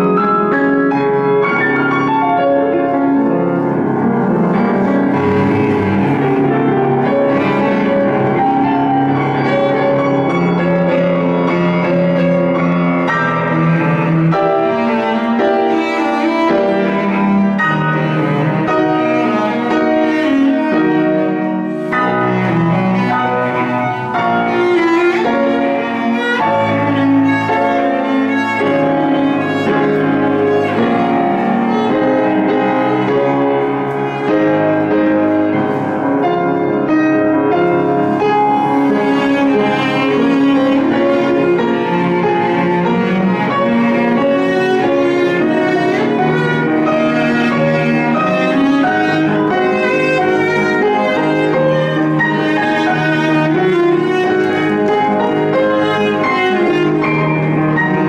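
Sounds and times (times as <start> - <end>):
bowed cello melody: 0.0 - 58.0
piano playing: 0.0 - 58.0.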